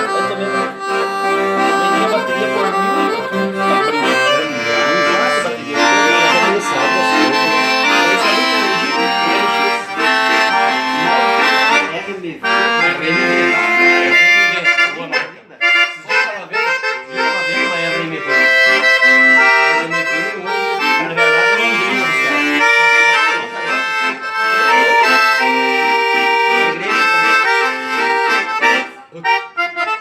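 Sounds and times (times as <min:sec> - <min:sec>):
accordion playing a melody: 0:00.0 - 0:30.0.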